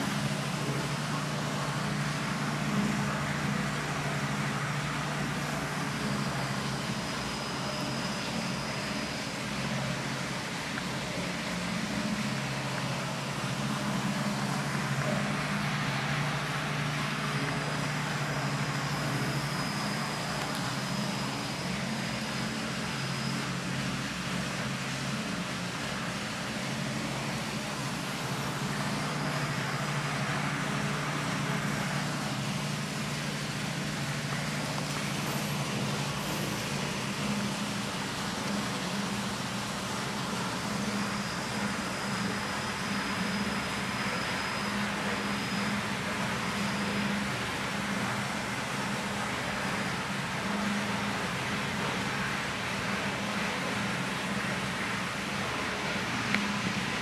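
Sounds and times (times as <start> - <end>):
faint thin high whine: 0.0 - 57.0
low mechanical hum: 0.0 - 57.0.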